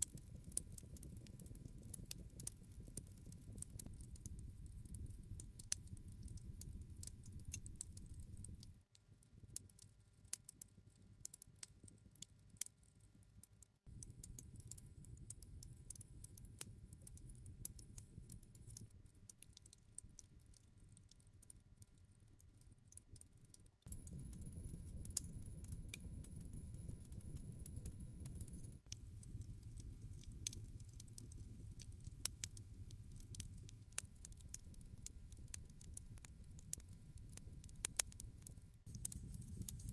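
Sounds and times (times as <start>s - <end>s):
wood fire crackling: 0.0s - 8.9s, 14.0s - 39.9s
low rumble of burning: 0.0s - 9.6s, 13.9s - 23.2s, 23.8s - 39.9s.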